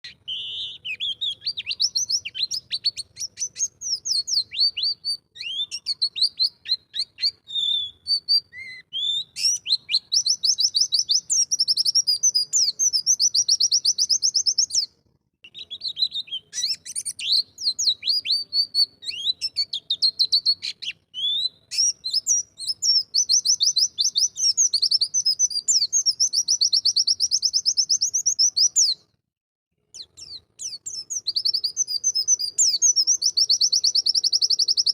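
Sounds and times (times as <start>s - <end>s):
bird singing fast chattering trills: 0.0s - 14.9s, 15.5s - 29.0s, 30.0s - 34.9s.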